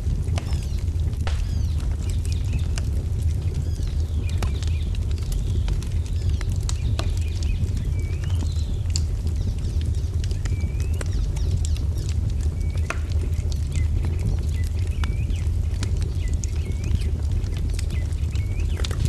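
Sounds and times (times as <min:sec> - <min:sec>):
wood fire crackling: 0:00.0 - 0:19.0
small birds chirping: 0:00.3 - 0:19.0.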